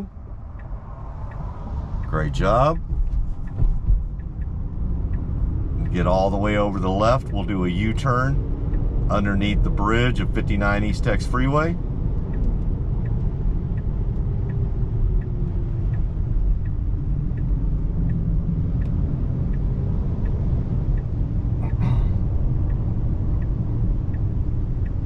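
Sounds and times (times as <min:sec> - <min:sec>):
turn signal ticking: 0:00.0 - 0:25.0
tyres rumbling on wet road: 0:00.0 - 0:25.0.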